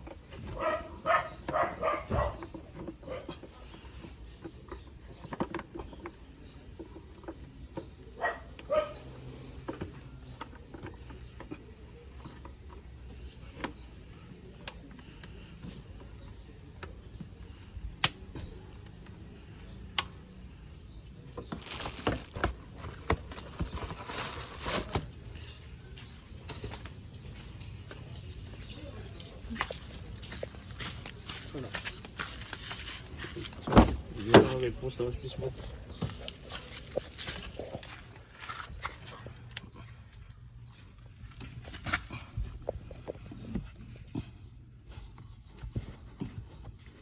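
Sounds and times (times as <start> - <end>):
rustling and scraping: 0.0 - 17.7, 20.5 - 47.0.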